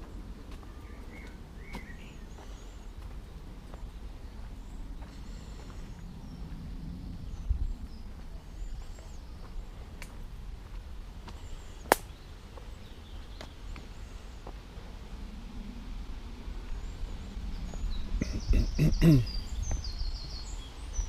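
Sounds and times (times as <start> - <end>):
small birds chirping: 0.0 - 14.9, 16.6 - 21.0
low outdoor rumble: 0.0 - 21.0.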